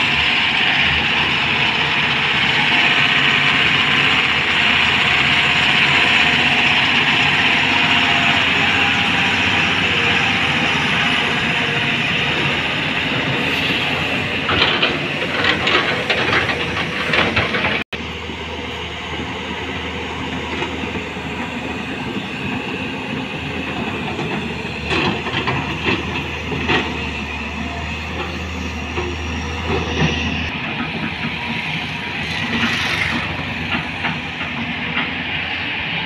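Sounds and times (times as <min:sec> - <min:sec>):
diesel engine drone with low hum: 0:00.0 - 0:36.0
diesel truck engine under load: 0:00.0 - 0:36.0.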